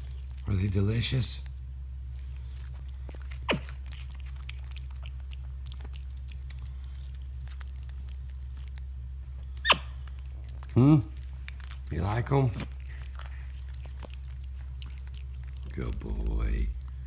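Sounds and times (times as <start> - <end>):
monkey chewing crunchy food: 0.0 - 17.0
steady low hum: 0.0 - 17.0.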